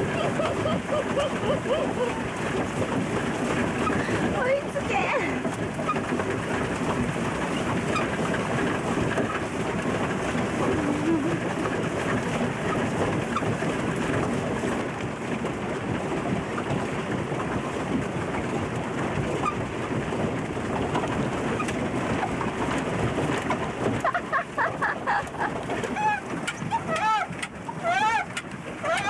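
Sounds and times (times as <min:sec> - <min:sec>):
paddle wheel splashing water: 0:00.0 - 0:29.0.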